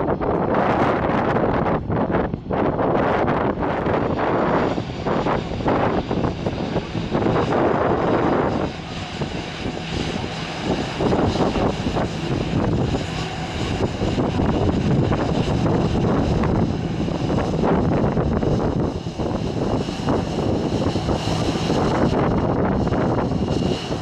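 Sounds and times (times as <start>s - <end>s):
jet engines running: 0.0s - 24.0s
wind buffeting microphone: 0.0s - 24.0s.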